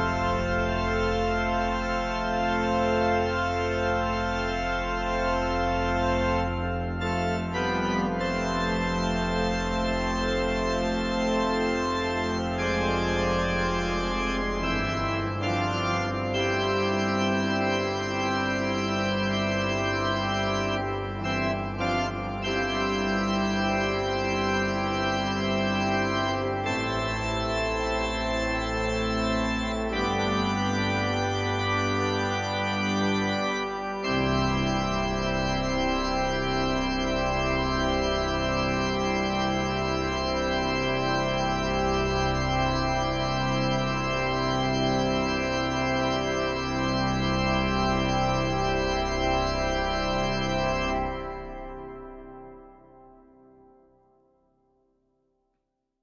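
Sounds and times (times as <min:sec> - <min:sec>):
slow organ chords: 0:00.0 - 0:54.2.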